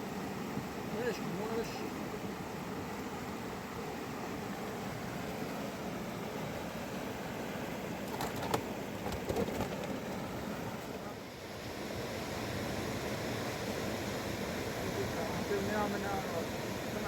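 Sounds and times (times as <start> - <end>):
fast river rushing water: 0.0 - 17.0.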